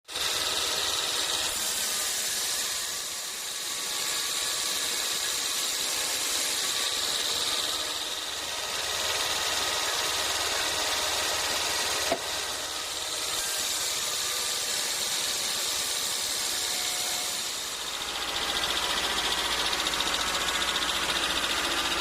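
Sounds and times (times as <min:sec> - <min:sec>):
sawmill machinery whining: 0:00.1 - 0:22.0.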